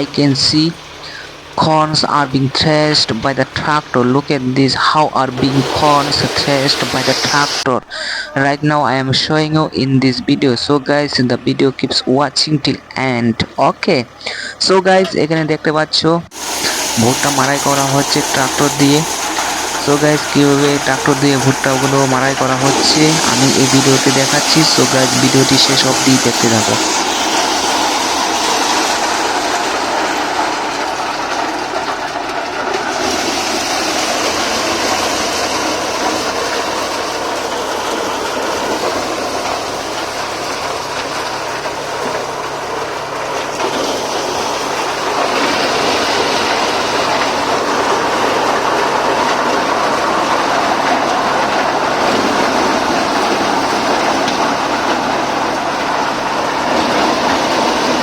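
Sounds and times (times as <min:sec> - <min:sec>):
maize thresher running: 0:00.0 - 0:15.5, 0:16.3 - 0:58.0
tractor engine: 0:00.0 - 0:58.0.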